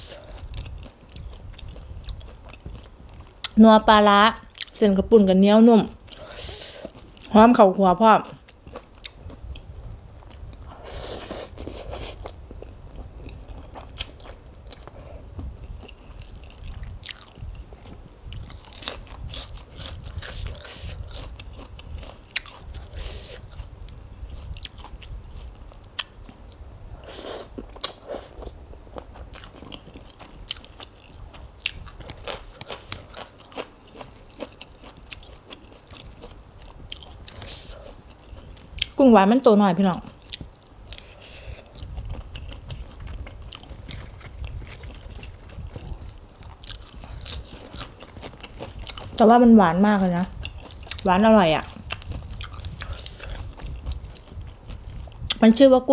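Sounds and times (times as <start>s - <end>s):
chewing with wet mouth sounds: 0.0s - 4.9s, 6.0s - 39.0s, 39.8s - 55.6s.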